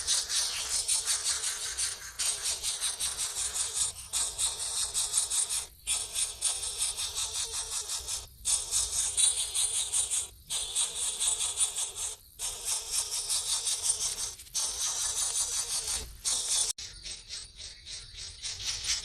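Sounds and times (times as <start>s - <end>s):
nestling birds begging: 0.0s - 19.0s.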